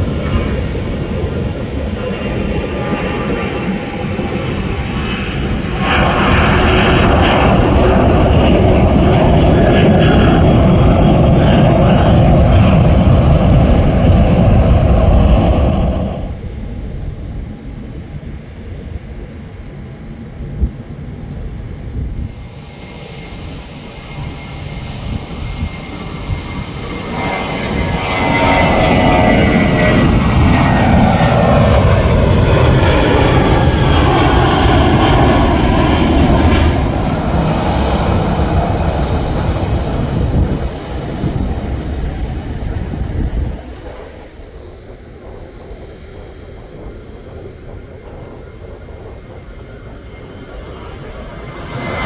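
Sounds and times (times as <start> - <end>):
jet airliner taking off: 0.0 - 52.0
jet engine whine falling in pitch: 0.0 - 52.0.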